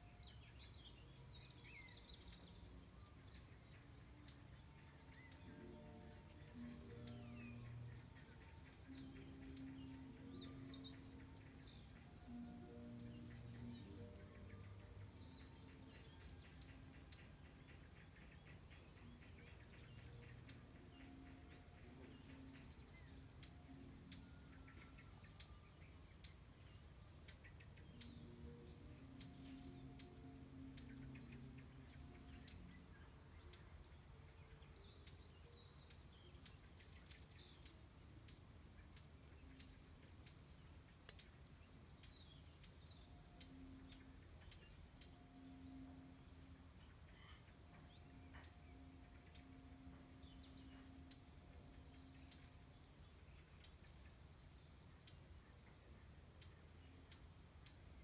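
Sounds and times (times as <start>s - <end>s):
faint bird chirps: 0.0s - 58.0s
steady background hum: 2.6s - 40.6s, 41.2s - 58.0s.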